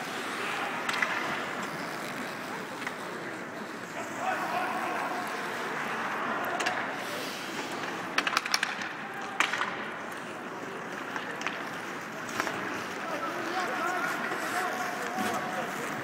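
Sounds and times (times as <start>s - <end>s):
crowd hubbub: 0.0s - 16.0s
skates scraping ice: 0.0s - 16.0s
stick and puck clacks: 0.1s - 4.0s, 4.8s - 16.0s.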